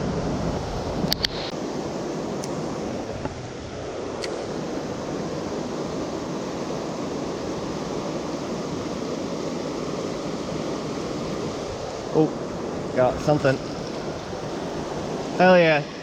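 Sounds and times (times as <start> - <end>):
fast river water rushing: 0.0 - 16.0.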